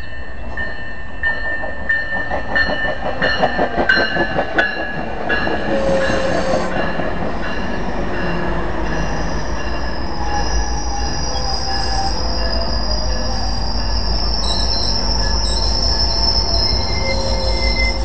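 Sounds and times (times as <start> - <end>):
low train rumble: 0.0 - 18.0
train wheels squealing on rails: 0.0 - 18.0.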